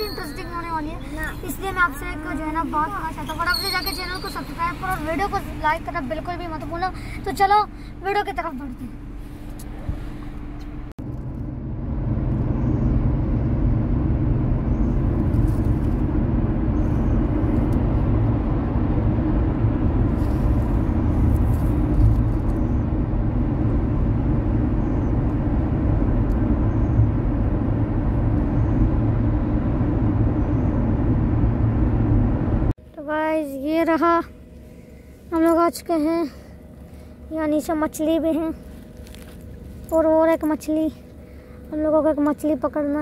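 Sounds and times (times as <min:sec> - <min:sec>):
car road and wind rumble: 0:00.0 - 0:43.0.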